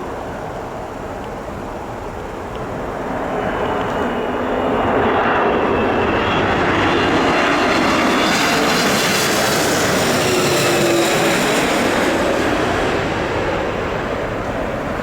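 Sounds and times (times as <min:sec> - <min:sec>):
faint engine whine: 0:00.0 - 0:15.0
jet airliner engine noise: 0:00.0 - 0:15.0.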